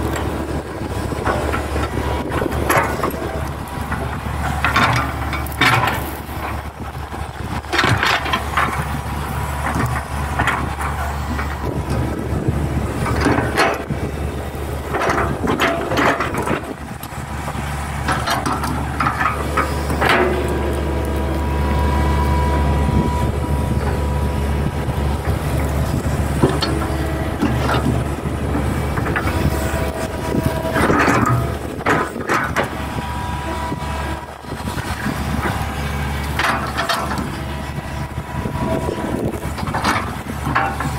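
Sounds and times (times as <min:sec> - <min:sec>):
excavator diesel engine running: 0:00.0 - 0:40.9
thin steady whine: 0:00.0 - 0:40.9.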